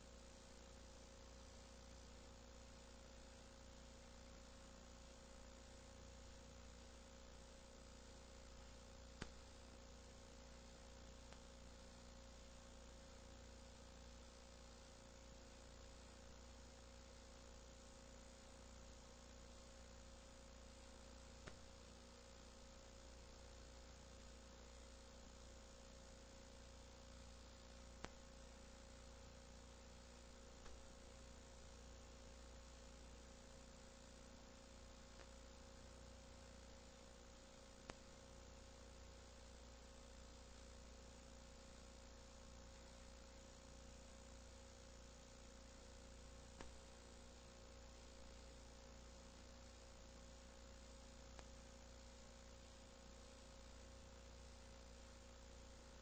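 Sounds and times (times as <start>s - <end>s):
faint electrical hum and hiss: 0.0s - 56.0s.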